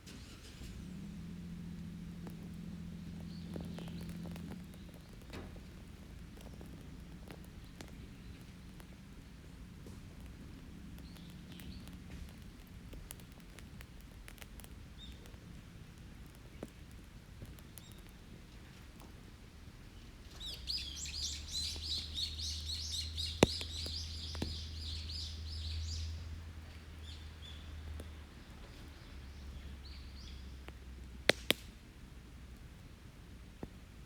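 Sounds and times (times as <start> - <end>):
campfire popping: 0.0 - 34.0
songbird singing: 0.4 - 30.8.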